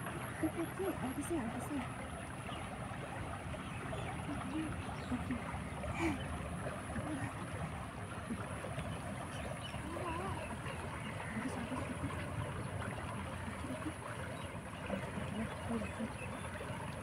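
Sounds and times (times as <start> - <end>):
shallow river rushing: 0.0 - 17.0.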